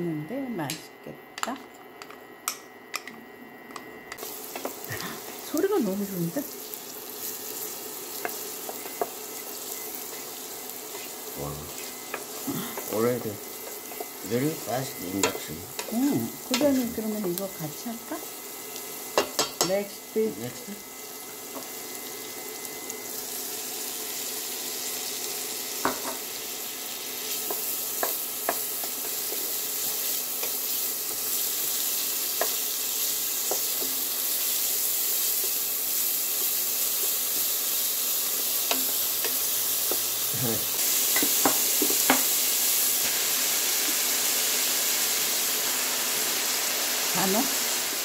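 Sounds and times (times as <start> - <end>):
garlic sizzling in oil: 4.2 - 48.0.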